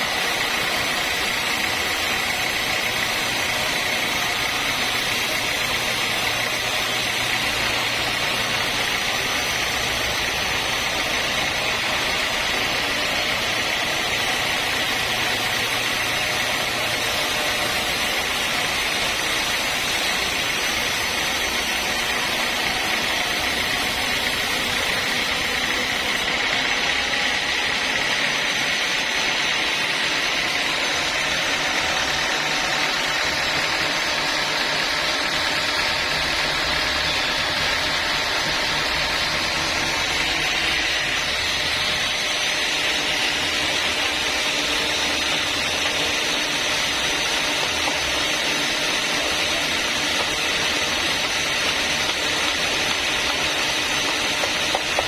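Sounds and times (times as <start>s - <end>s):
saw cutting timber: 0.0s - 55.0s.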